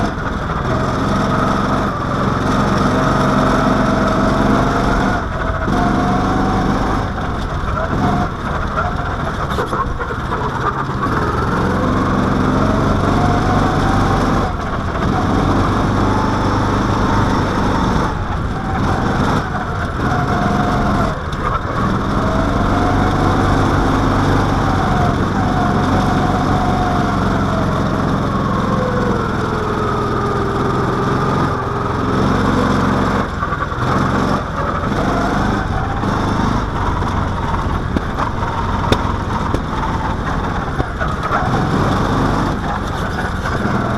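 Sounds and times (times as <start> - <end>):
small engine revving: 0.0 - 43.9.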